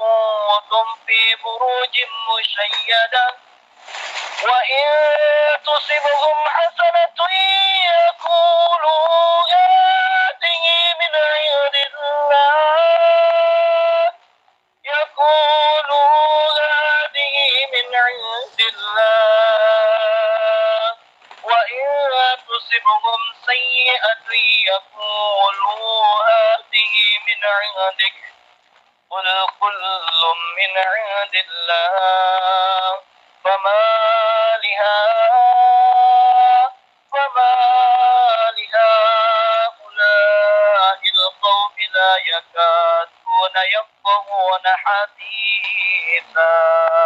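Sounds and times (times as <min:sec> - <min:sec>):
man chanting melodically: 0:00.0 - 0:03.4, 0:04.4 - 0:14.2, 0:14.8 - 0:28.4, 0:29.1 - 0:47.0.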